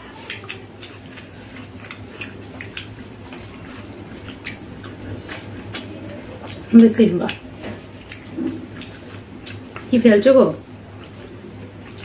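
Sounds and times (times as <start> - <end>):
chewing mouths: 0.0 - 12.0
low steady hum: 0.0 - 12.0.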